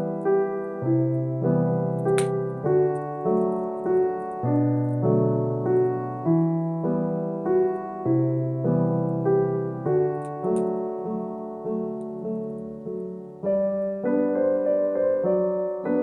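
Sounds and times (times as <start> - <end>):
gentle solo piano piece: 0.0 - 16.0.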